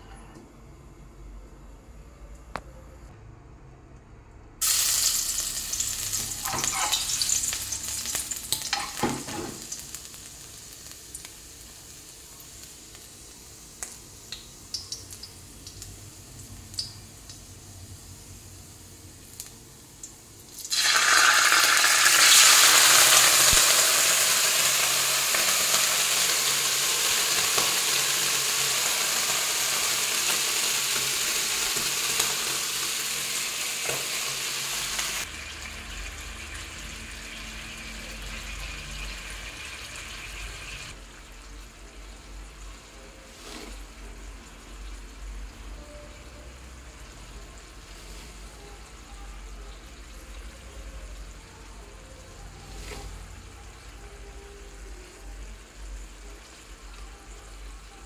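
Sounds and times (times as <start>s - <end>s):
food sizzling in a wok: 4.6s - 58.0s.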